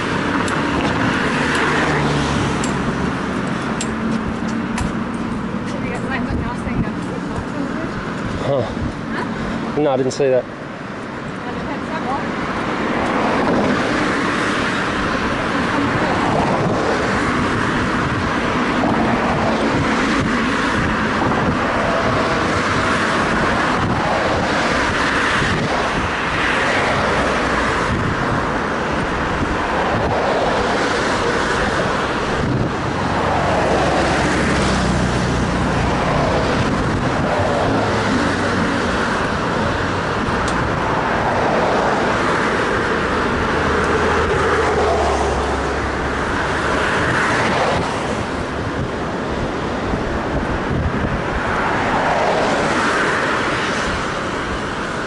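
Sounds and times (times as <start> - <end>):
car engine low hum: 0.0 - 55.0
cars passing: 0.0 - 55.0.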